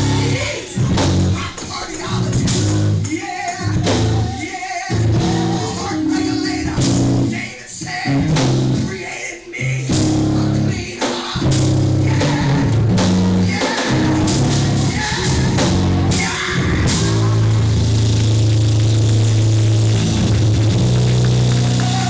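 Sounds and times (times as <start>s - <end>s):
live band playing upbeat music: 0.0s - 9.1s, 9.8s - 22.0s
voices singing along: 0.0s - 18.0s.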